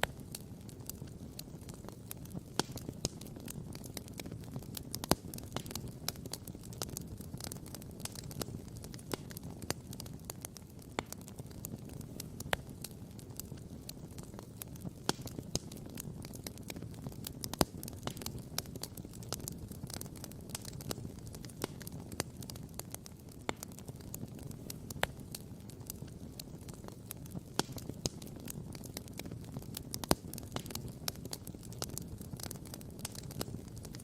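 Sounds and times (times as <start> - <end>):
campfire crackling and popping: 0.0 - 34.0
fire low rumble: 0.0 - 34.0.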